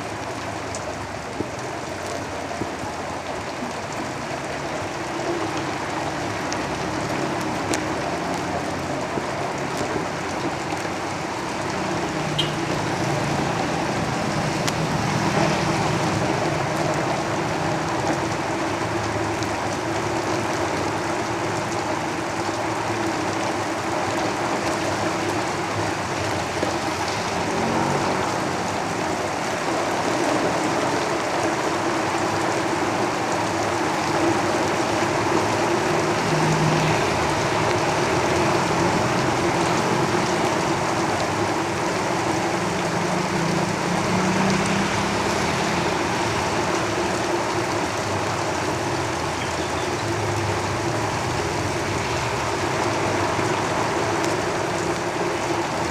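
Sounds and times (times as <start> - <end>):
heavy rain on a roof: 0.0 - 55.9
vehicles rumbling past: 0.0 - 55.9.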